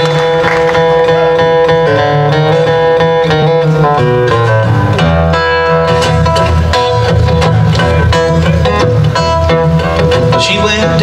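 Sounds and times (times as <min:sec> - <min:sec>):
acoustic guitar bluegrass picking: 0:00.0 - 0:11.0.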